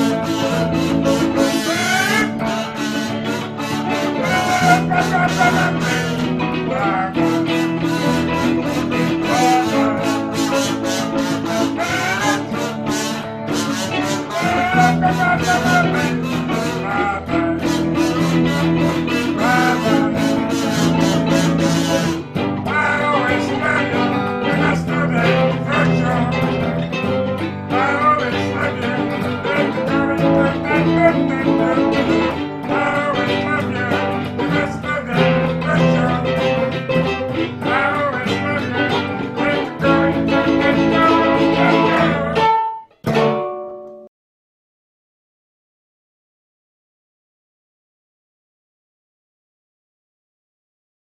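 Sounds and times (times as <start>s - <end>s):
bluesy guitar band music: 0.0s - 44.1s.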